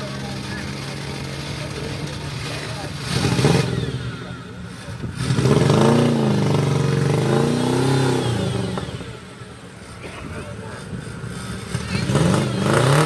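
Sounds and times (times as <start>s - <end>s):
engine revving hard: 0.0s - 9.2s, 11.6s - 13.0s.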